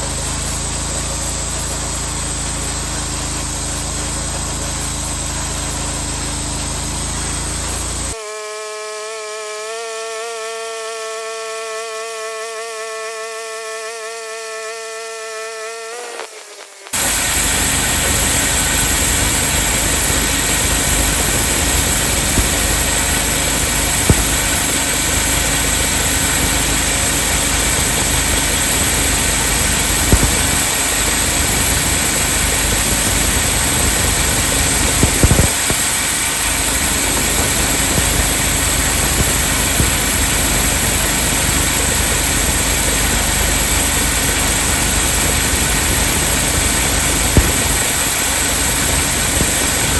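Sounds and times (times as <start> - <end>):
sawmill engine running: 0.0 - 8.2, 17.0 - 49.5.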